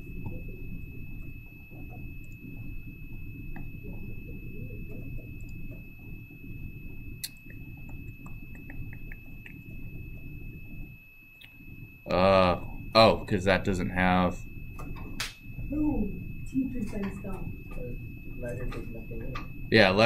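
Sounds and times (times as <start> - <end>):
high-pitched electronic whine: 0.0 - 20.0
low room noise: 0.0 - 20.0.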